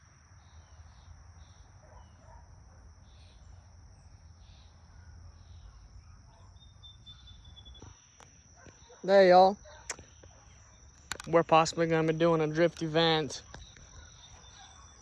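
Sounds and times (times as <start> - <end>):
high insect drone: 0.0 - 15.0
soft chirps: 3.0 - 15.0.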